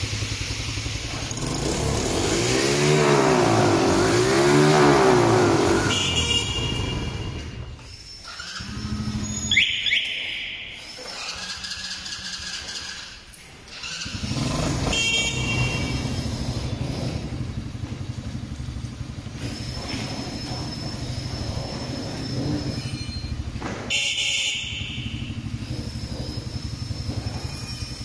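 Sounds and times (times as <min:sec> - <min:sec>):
small engine starting and idling: 0:00.0 - 0:10.0, 0:10.8 - 0:28.0.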